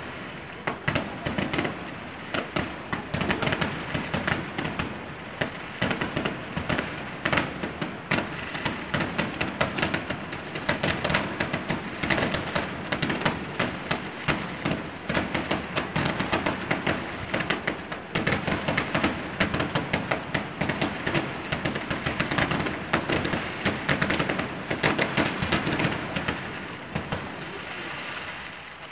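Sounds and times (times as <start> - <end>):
fireworks bangs and crackling: 0.0 - 28.9.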